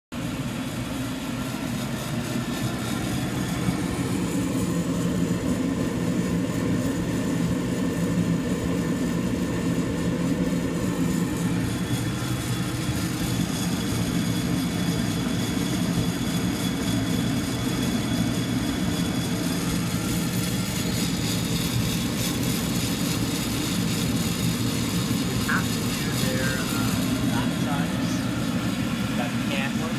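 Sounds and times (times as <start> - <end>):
coffee roaster blower humming: 0.2 - 29.9.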